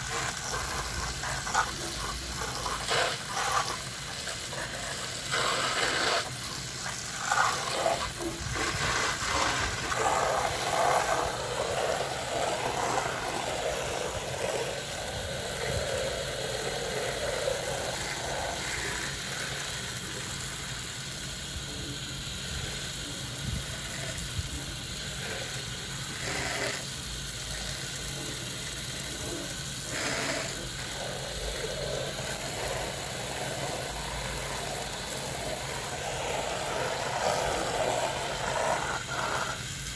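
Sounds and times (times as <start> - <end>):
water spraying on siding: 0.0 - 39.9.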